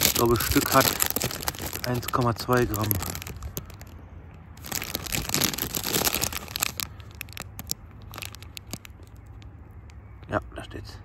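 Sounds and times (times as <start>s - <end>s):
plastic bag crinkling: 0.0s - 4.0s, 4.6s - 9.5s.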